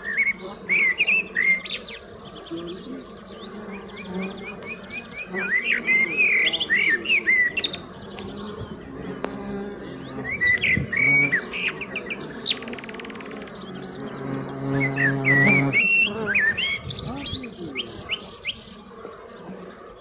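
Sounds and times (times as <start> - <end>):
bees humming: 0.0 - 20.0
songbird singing: 0.0 - 20.0.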